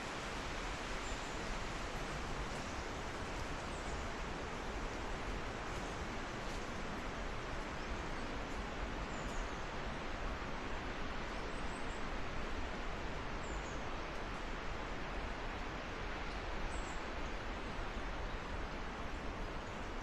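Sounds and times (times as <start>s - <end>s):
leaves rustling in wind: 0.0s - 20.0s
wind rumble on microphone: 0.0s - 20.0s.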